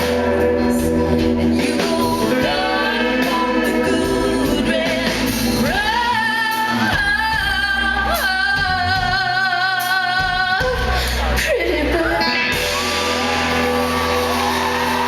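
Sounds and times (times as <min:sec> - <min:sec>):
woman singing with vibrato: 0:00.0 - 0:12.9.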